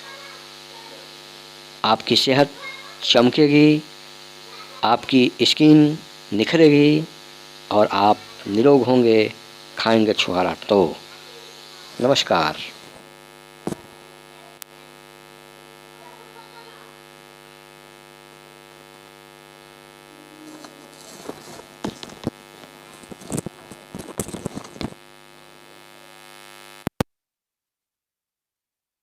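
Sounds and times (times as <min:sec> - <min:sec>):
electrical mains hum: 0:00.0 - 0:26.9.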